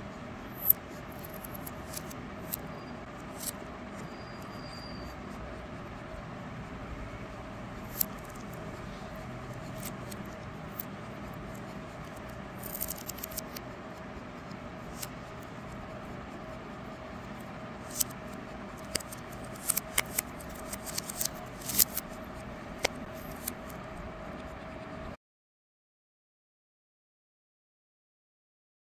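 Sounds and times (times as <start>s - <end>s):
steady background hum: 0.0s - 25.2s.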